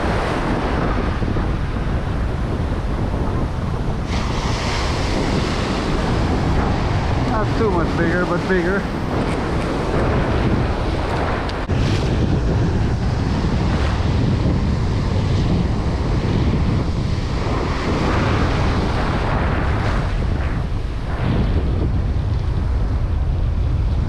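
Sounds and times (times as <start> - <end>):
surf breaking over rocks: 0.0 - 23.0
wind buffeting microphone: 0.0 - 24.0.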